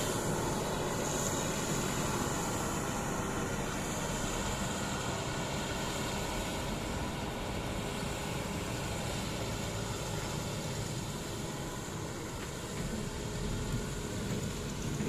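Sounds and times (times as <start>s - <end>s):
heavy diesel machinery running: 0.0s - 15.0s
hiss: 0.0s - 15.0s.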